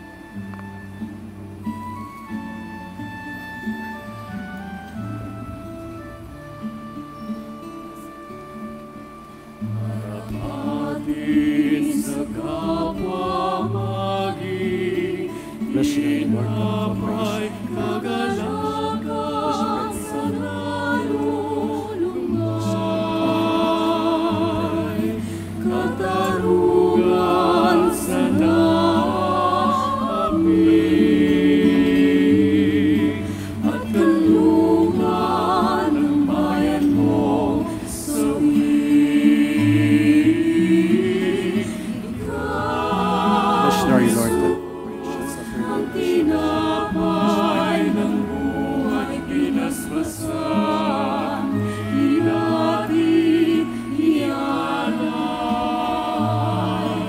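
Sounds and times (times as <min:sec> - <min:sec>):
low instrumental accompaniment: 0:00.0 - 0:14.2, 0:22.8 - 0:55.5
choir singing a hymn: 0:00.0 - 0:57.0.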